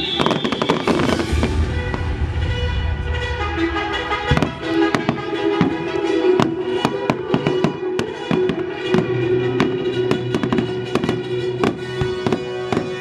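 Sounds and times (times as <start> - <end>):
fireworks bangs and crackles: 0.0 - 13.0
orchestral music over loudspeakers: 0.0 - 13.0.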